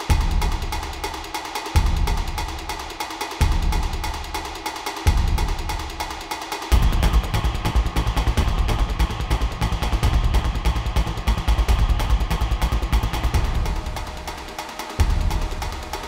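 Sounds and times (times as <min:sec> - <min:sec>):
fast percussion ticks: 0:00.0 - 0:16.0.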